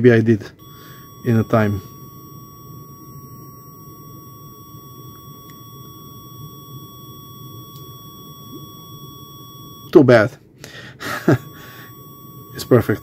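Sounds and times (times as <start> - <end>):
multimeter continuity beep: 0.4 - 10.3, 11.0 - 13.0.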